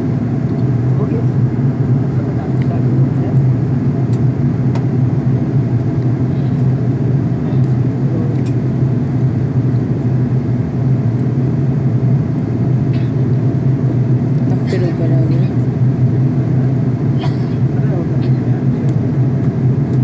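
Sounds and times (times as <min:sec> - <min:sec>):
jet engine and airflow drone: 0:00.0 - 0:20.0.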